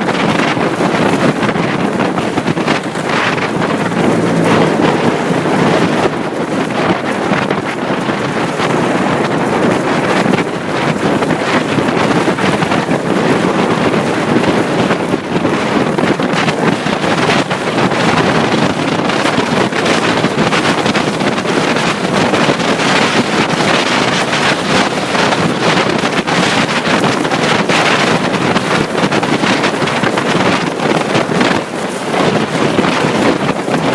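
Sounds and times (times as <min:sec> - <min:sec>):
road noise: 0:00.0 - 0:33.9
wind rushing over microphone: 0:00.0 - 0:33.9.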